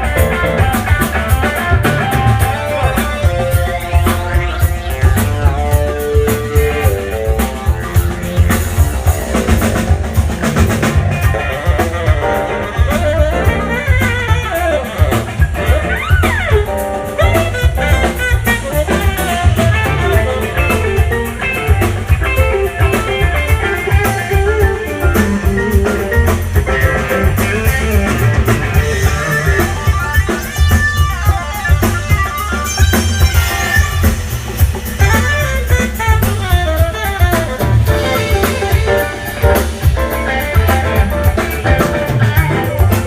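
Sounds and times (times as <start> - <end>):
drum kit beat: 0.0 - 43.0
guitar: 0.0 - 43.0
heavy bass line: 0.0 - 43.0.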